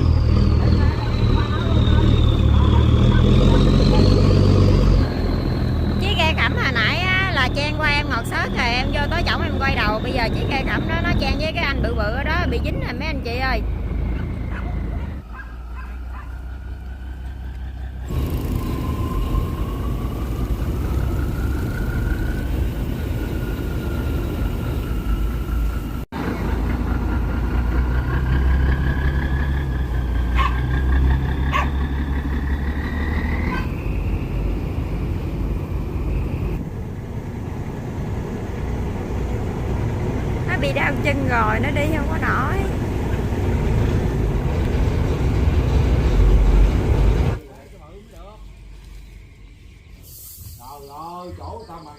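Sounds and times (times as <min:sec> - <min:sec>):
boat engine rumbling: 0:00.0 - 0:51.9.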